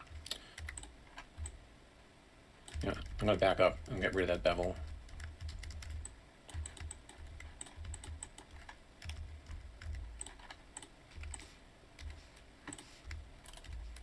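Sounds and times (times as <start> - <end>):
computer keyboard keys clicking: 0.0 - 1.6, 2.7 - 3.2, 3.8 - 11.4, 12.0 - 14.0.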